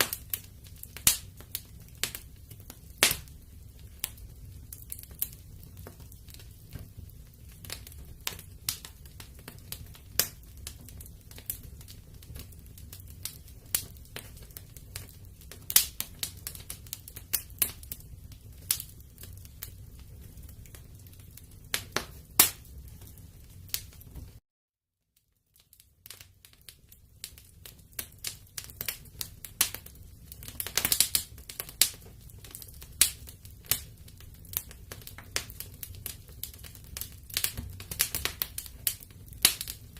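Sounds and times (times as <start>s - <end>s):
wood fire crackling and popping: 0.0s - 24.4s, 25.2s - 39.9s.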